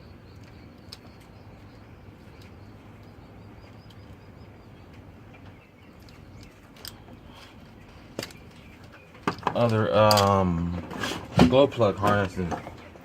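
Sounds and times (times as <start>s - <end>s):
faint bird chirping: 0.0s - 10.9s
steady low hum: 0.0s - 13.0s.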